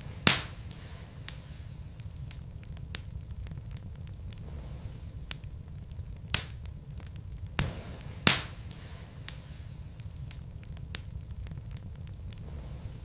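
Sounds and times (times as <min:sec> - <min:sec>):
fire crackling and popping: 0:00.0 - 0:13.0
low steady rumble: 0:00.0 - 0:13.0.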